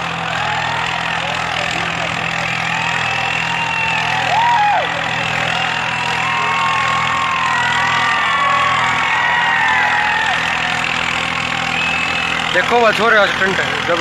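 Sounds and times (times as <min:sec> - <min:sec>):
long rising and falling tones: 0:00.0 - 0:12.8
tractor diesel engine running: 0:00.0 - 0:14.0.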